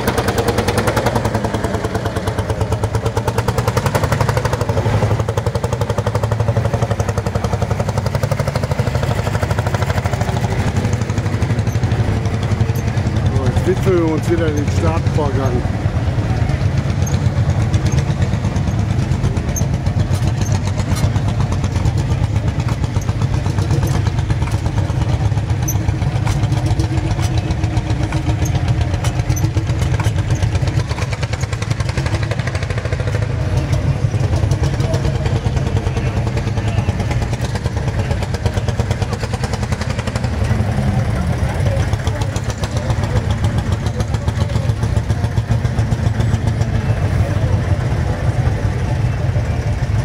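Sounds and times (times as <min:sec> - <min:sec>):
single-cylinder engine running: 0:00.0 - 0:50.0.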